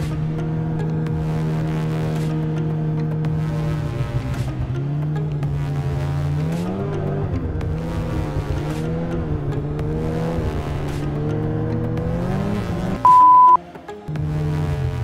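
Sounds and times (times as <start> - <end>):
snowmobile engine revving: 0.0 - 13.5.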